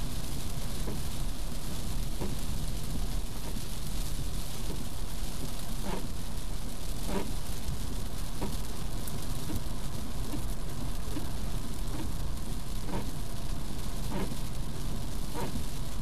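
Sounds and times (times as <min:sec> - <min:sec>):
car road rumble: 0:00.0 - 0:16.0
heavy rain drumming on car roof: 0:00.0 - 0:16.0.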